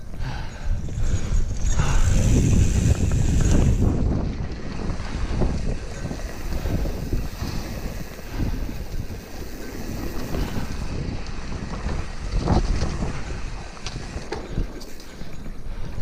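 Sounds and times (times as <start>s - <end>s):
tyres rumbling on dirt trail: 0.0s - 16.0s
wind buffeting microphone: 0.0s - 16.0s.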